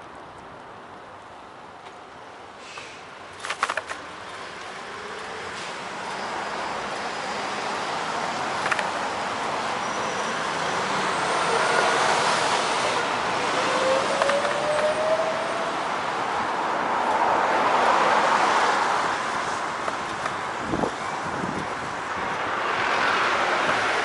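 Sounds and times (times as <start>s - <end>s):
cars passing on a street: 0.0s - 24.0s.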